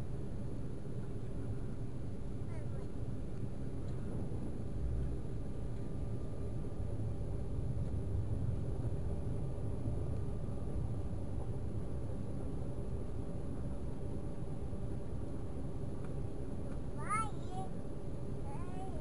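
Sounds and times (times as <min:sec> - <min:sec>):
faint steady whine: 0:00.0 - 0:19.0
jet engine rumble in cabin: 0:00.0 - 0:19.0.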